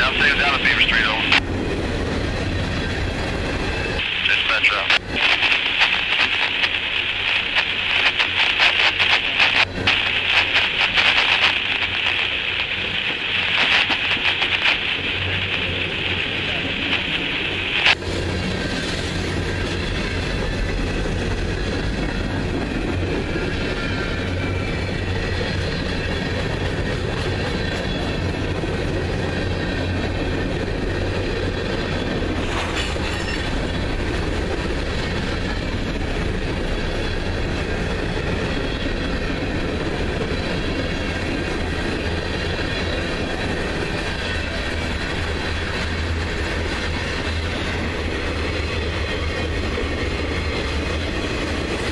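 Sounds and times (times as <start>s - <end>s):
freight cars rumbling on rails: 0.0s - 51.9s.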